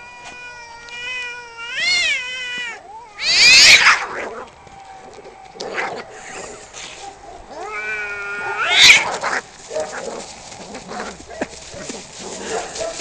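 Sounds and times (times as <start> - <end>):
cats caterwauling: 0.0 - 13.0.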